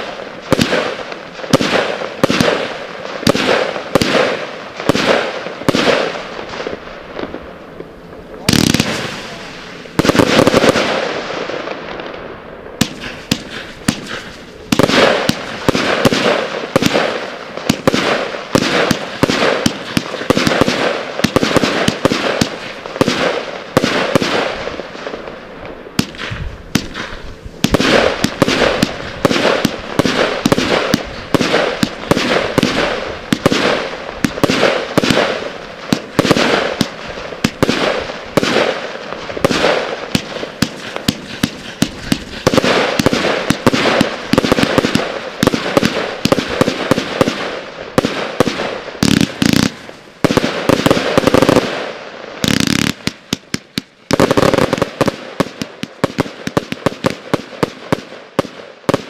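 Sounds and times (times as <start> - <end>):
firework cake firing: 0.0 - 59.0.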